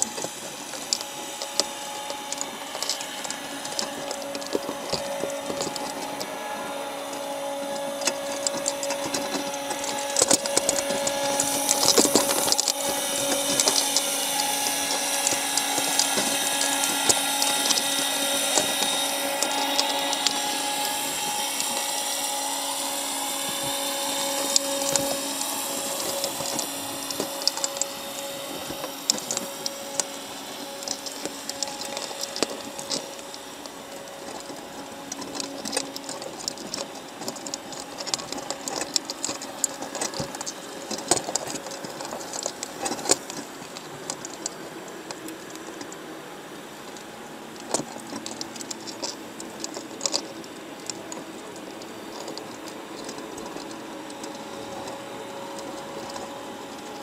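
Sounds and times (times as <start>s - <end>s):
clicks and rattles: 0.0s - 57.0s
machinery hum and whine: 0.0s - 57.0s.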